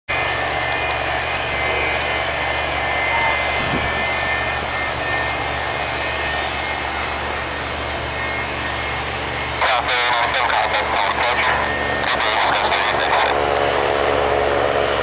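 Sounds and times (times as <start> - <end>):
jet engines rumbling and whining: 0.1 - 15.0.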